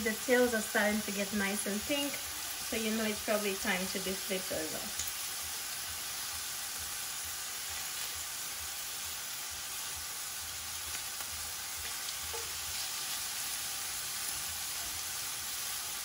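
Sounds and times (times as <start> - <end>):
shrimp sizzling in hot oil: 0.0 - 16.0.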